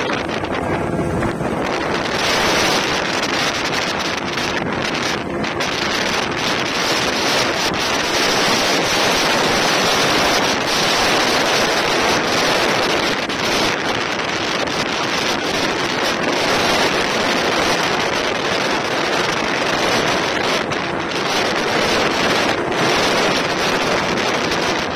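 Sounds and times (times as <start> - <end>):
rushing water: 0.0 - 24.9
wind buffeting microphone: 0.0 - 24.9.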